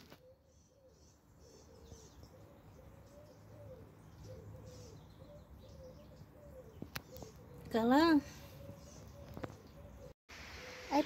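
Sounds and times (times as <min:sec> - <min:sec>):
low repeated bird call: 0:00.0 - 0:11.0.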